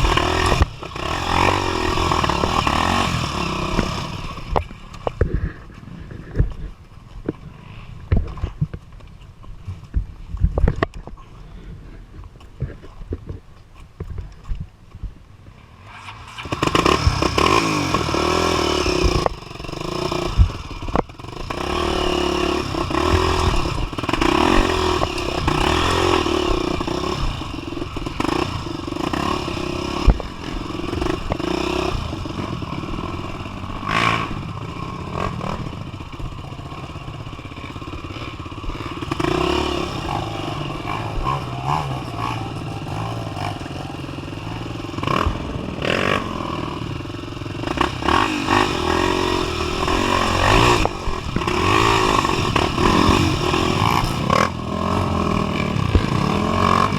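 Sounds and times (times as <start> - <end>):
dirt bike engine revving: 0.0 - 6.7, 15.7 - 56.9.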